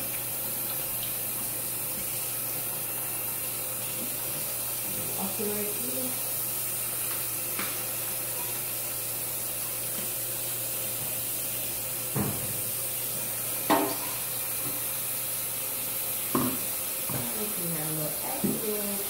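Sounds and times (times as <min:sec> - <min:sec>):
dough sizzling in grease: 0:00.0 - 0:19.0.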